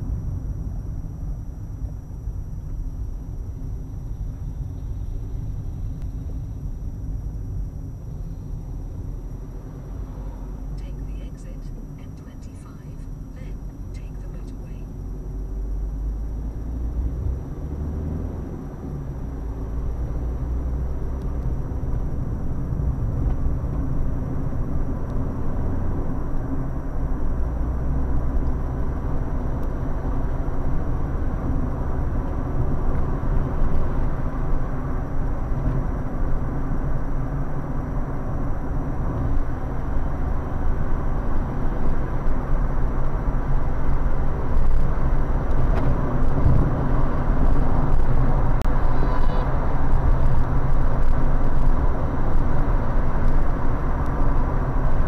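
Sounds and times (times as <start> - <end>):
tyre and engine rumble in car: 0.0 - 55.0.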